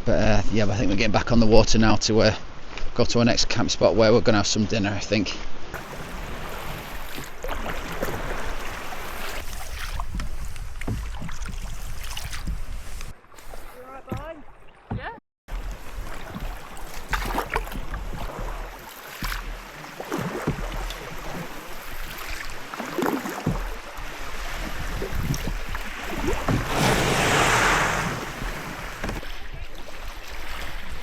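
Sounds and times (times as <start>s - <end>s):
rush of water or wind: 1.9s - 13.8s, 15.5s - 31.0s
paddles splashing in water: 5.8s - 31.0s.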